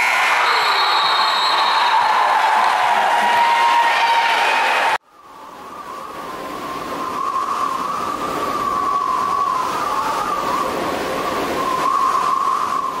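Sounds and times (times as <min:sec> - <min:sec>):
howling wind: 0:01.9 - 0:13.0.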